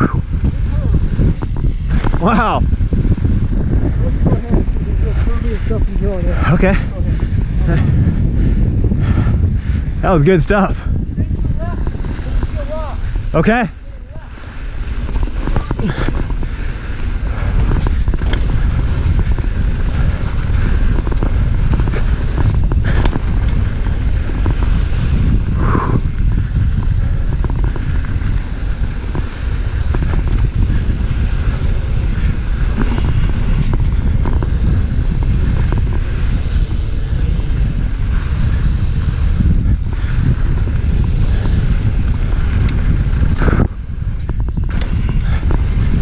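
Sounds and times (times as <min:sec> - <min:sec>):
bike rattling and clicking: 0:00.0 - 0:46.0
wind buffeting microphone: 0:00.0 - 0:46.0.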